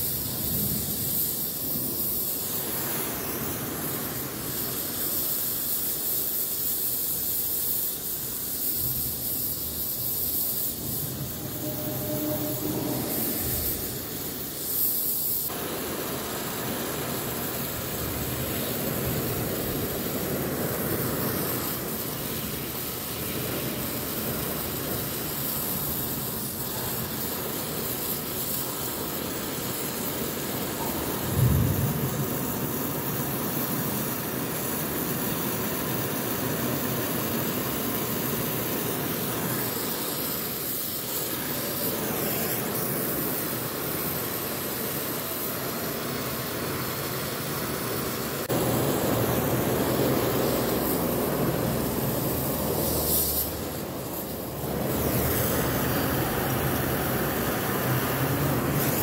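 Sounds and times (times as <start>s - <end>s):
torch flame roaring: 0.0s - 59.0s.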